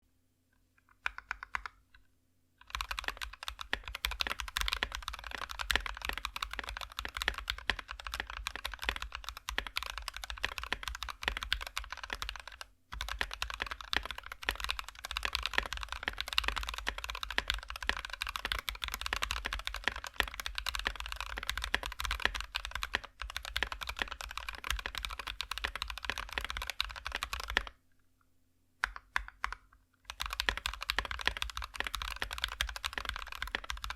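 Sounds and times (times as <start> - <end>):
mechanical keyboard typing: 0.8 - 2.0, 2.6 - 27.8, 28.8 - 33.9.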